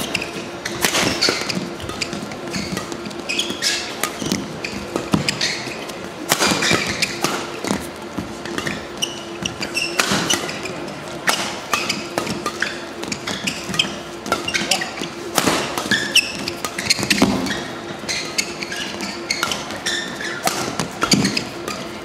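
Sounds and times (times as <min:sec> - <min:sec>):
rackets hitting shuttlecock: 0:00.0 - 0:22.0
shoes squeaking on court: 0:00.0 - 0:22.0.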